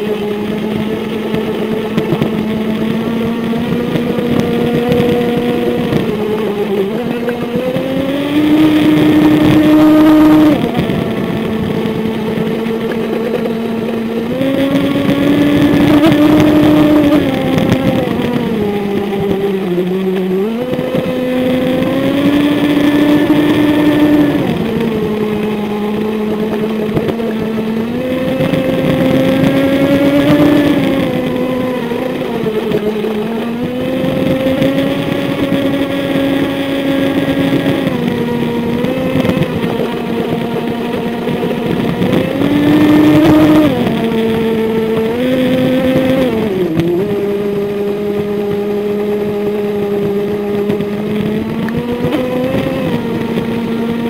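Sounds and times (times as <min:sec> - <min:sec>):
electric motor whining: 0:00.0 - 0:54.0.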